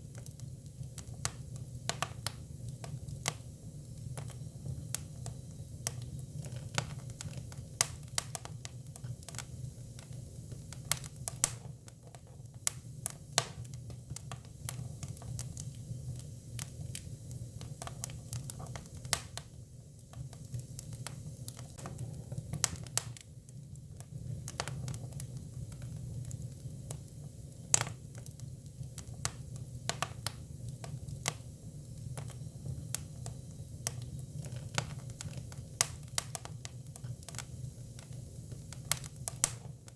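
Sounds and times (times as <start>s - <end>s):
firewood crackling and popping: 0.0s - 39.9s
low rumble of fire: 0.0s - 39.9s.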